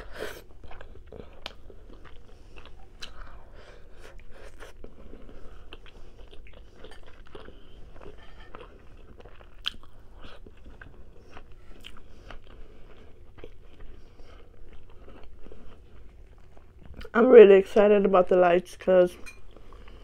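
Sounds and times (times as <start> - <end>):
person chewing food: 0.0 - 17.2, 19.2 - 20.0.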